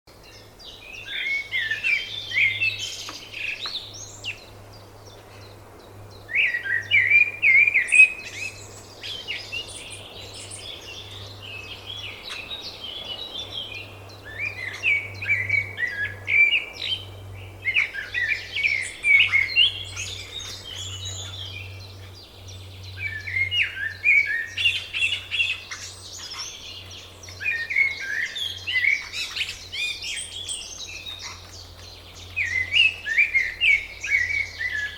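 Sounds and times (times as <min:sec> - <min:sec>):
songbird singing: 0:00.1 - 0:34.9.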